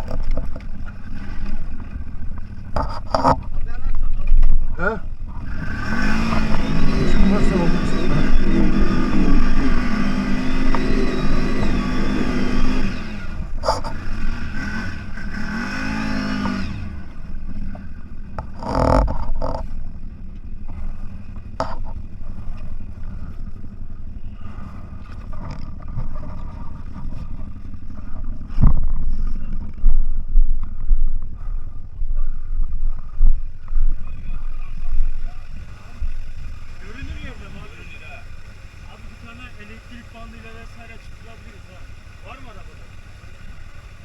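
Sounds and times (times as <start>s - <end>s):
off-road vehicle engine revving: 0.0s - 44.0s.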